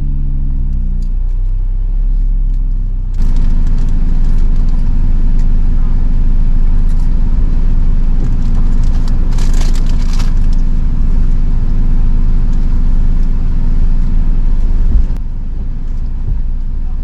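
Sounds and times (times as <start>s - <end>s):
car engine running under load: 0.0s - 17.0s
crunching and crackling: 2.5s - 17.0s.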